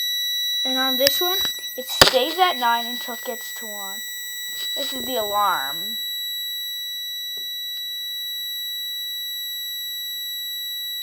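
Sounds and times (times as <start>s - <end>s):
high-pitched alarm buzzer: 0.0s - 11.0s.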